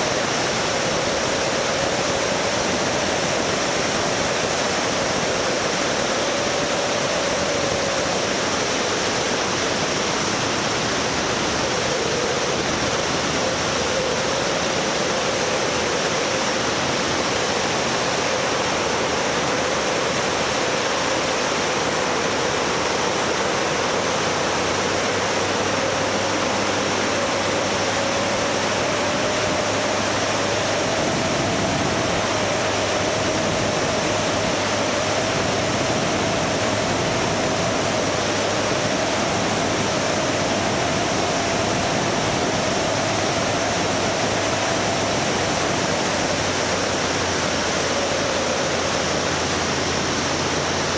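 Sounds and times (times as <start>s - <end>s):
faint whine: 0.0s - 50.9s.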